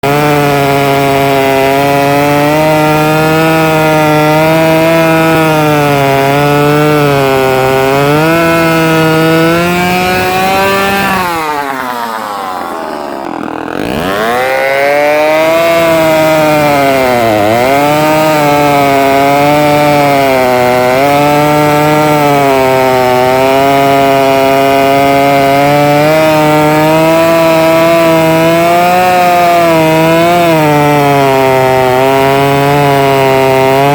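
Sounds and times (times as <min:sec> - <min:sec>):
chainsaw running at high speed: 0:00.0 - 0:33.9.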